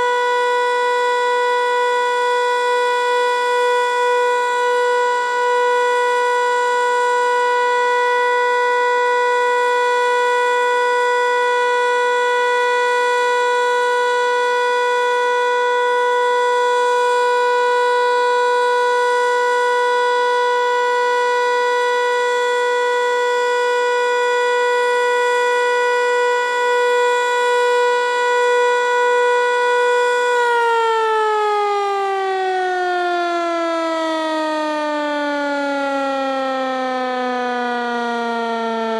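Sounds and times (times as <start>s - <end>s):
civil defense siren: 0.0s - 38.9s.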